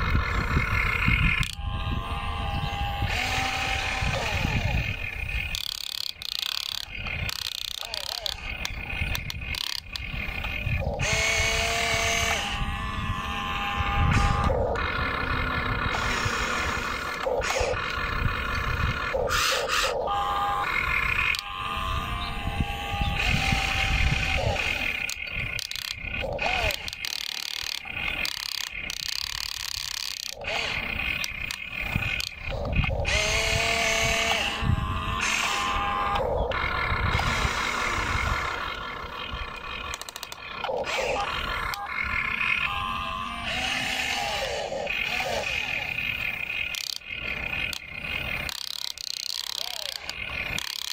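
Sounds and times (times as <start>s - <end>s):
toy excavator motors whining: 0.0s - 50.9s
sharp clicks: 0.6s - 1.7s, 3.0s - 12.6s, 13.9s - 20.0s, 20.6s - 21.5s, 23.0s - 42.7s, 43.3s - 50.9s.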